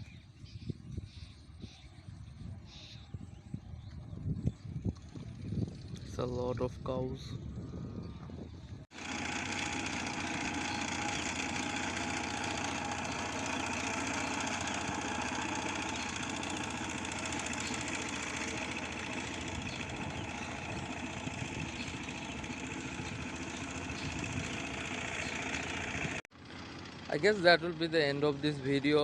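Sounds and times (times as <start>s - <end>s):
engine chugging: 3.6s - 7.3s, 7.9s - 29.0s.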